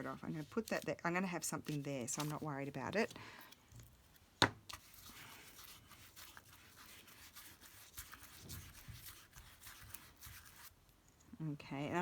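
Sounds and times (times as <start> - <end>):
paper rustling: 0.0 - 10.7.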